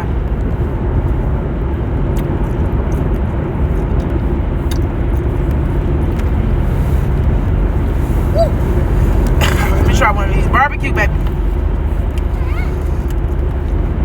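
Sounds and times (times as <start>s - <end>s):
car road rumble inside cabin: 0.0s - 14.0s.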